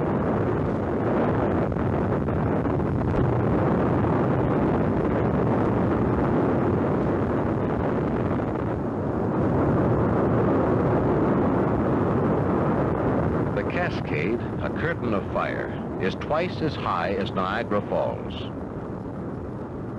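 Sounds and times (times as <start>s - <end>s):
lava falls roaring: 0.0s - 19.9s.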